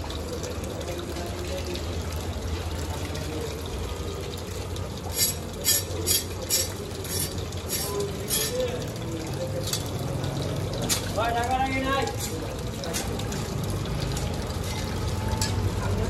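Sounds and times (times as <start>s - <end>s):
water sloshing in a bowl: 0.0s - 16.0s.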